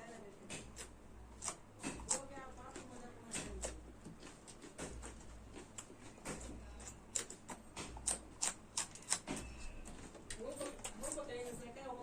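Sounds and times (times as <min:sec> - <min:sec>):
chillies being chewed: 0:00.5 - 0:11.6.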